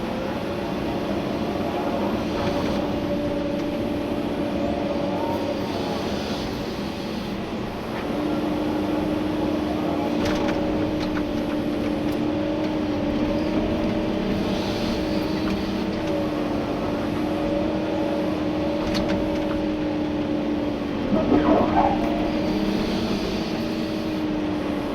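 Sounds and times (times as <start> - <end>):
excavator engine and hydraulics: 0.0 - 24.9
steady whine: 0.8 - 24.9.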